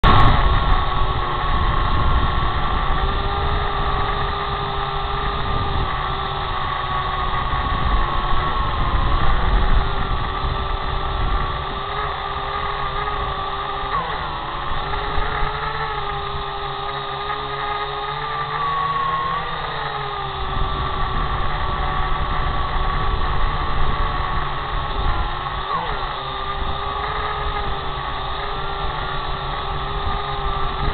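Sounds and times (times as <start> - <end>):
drone motors whining: 0.0 - 30.9
propeller wash rumble: 0.0 - 30.9.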